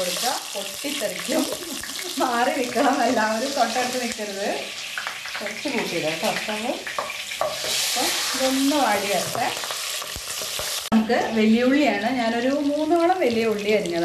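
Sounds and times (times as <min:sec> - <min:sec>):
chillies sizzling in hot oil: 0:00.0 - 0:14.0.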